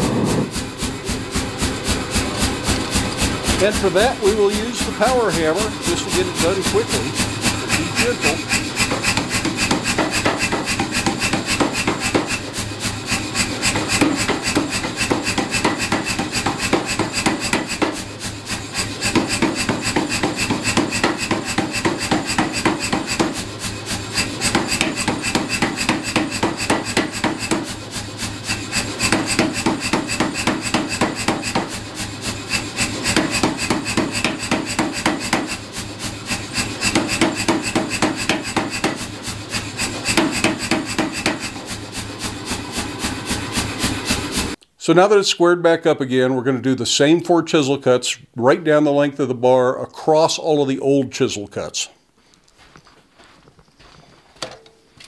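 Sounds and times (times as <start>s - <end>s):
power hammer striking iron: 0.0s - 44.6s.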